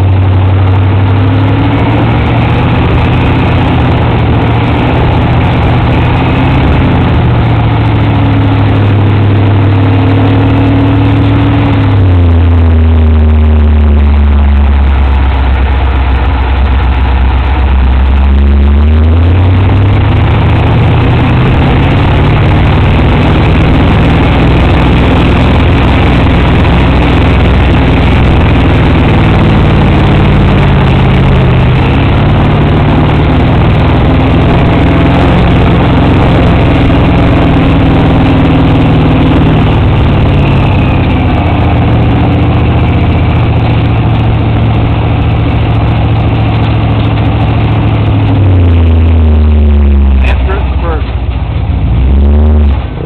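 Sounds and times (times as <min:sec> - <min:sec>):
wind noise: 0:00.0 - 0:50.1
buggy engine running hard: 0:00.0 - 0:53.0.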